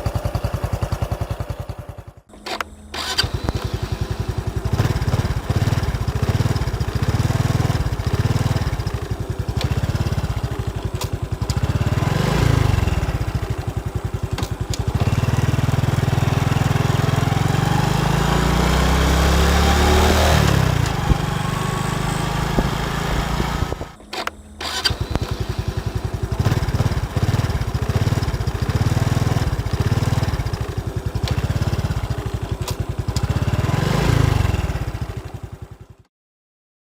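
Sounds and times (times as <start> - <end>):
motorcycle engine idling and revving: 0.0 - 36.1.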